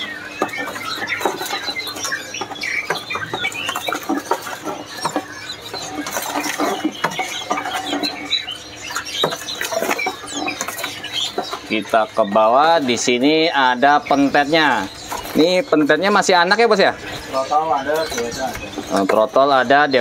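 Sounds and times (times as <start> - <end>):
birds rustling in cages: 0.0 - 20.0
songbirds chirping: 0.0 - 20.0.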